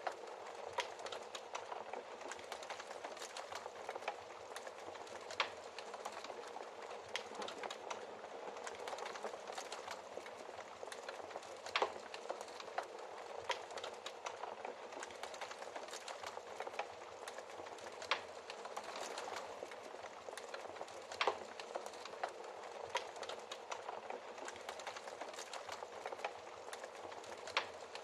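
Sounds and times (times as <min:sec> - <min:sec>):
fire popping: 0:00.0 - 0:28.0
wood fire crackling: 0:00.0 - 0:28.0.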